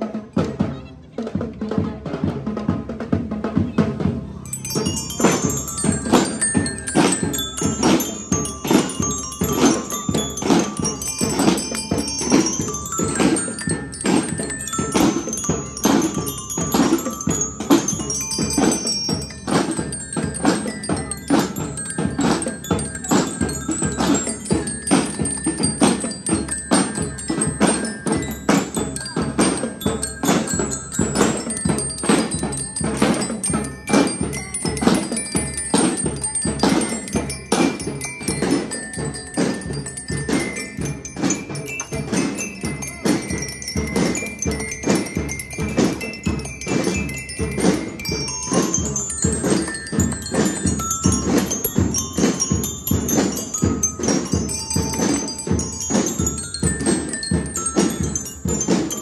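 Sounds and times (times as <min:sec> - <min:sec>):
snare drums beating: 0:01.4 - 0:59.0
bell lyre melody: 0:04.4 - 0:59.0.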